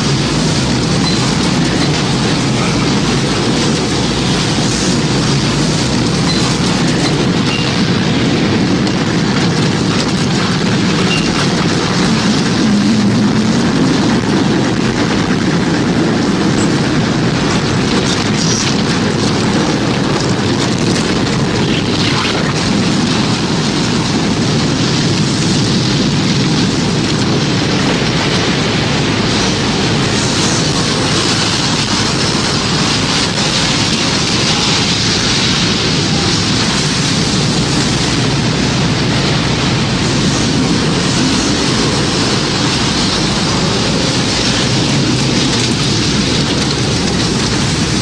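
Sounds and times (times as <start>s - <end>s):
tornado wind rumble: 0.0s - 48.0s.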